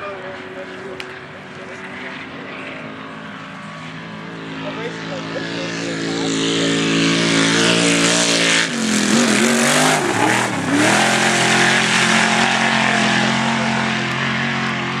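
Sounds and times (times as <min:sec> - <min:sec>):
race vehicle engine running hard: 0:00.0 - 0:15.0.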